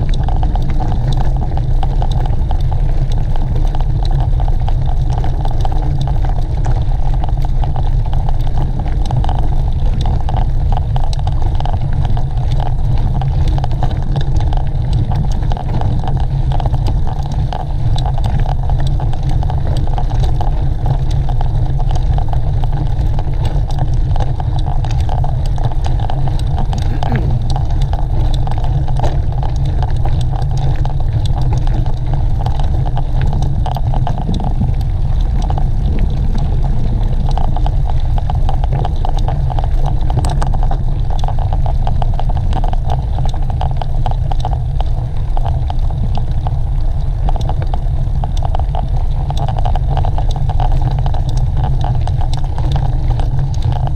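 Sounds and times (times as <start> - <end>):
small rattles and clicks: 0.0 - 53.9
wind rumble on microphone: 0.0 - 53.9.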